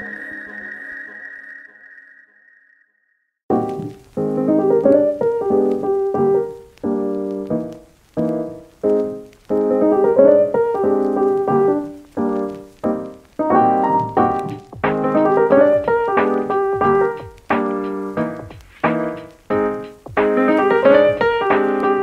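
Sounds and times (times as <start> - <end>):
piano music: 3.5 - 22.0.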